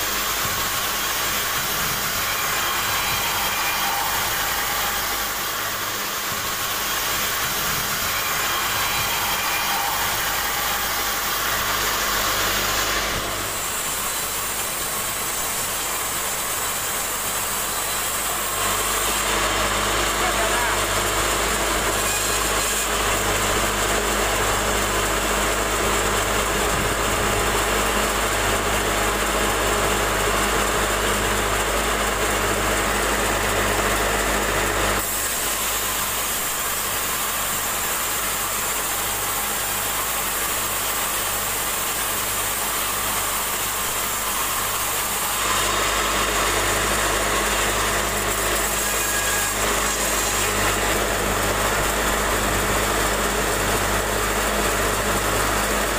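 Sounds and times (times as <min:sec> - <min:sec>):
band saw cutting log: 0:00.0 - 0:55.9.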